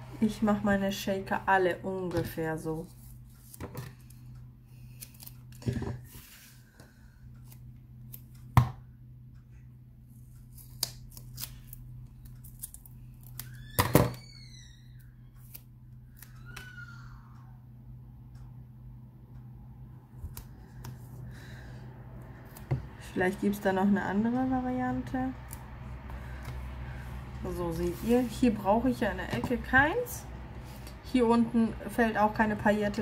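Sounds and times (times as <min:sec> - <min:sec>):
steady low hum: 0:00.0 - 0:13.7, 0:14.6 - 0:33.0.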